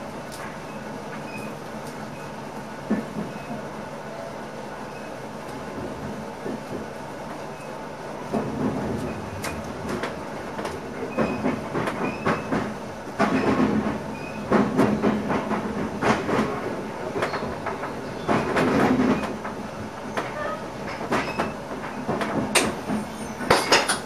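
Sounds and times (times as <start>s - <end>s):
train running on track: 0.0s - 24.0s.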